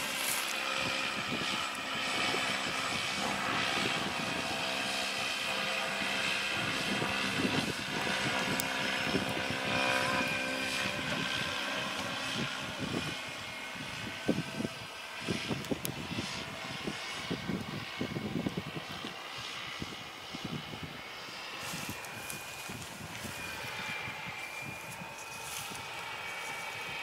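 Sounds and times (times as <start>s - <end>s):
drone rotors humming: 0.0s - 27.0s.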